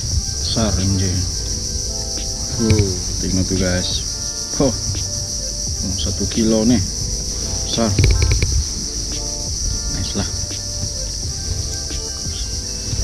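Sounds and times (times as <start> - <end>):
background song: 0.0 - 13.0
high insect drone: 0.0 - 13.0.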